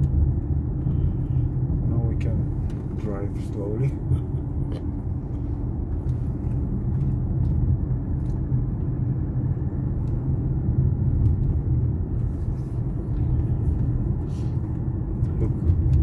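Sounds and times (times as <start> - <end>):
car engine: 0.0 - 16.0.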